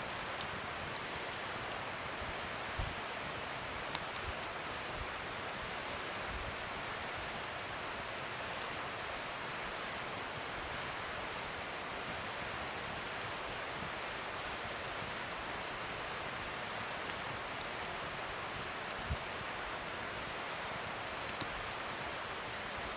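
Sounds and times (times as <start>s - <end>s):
bonfire hissing and popping: 0.0s - 22.9s.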